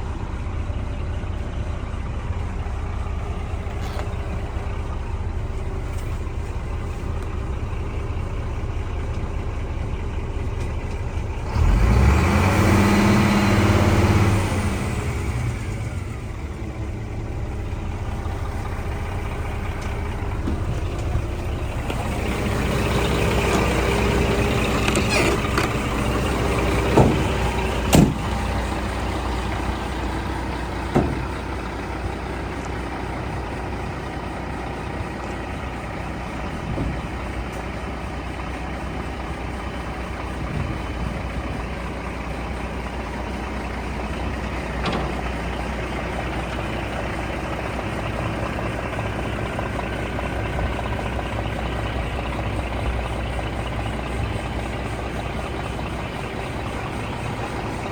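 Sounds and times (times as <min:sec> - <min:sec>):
truck diesel engine idling: 0:00.0 - 0:57.9.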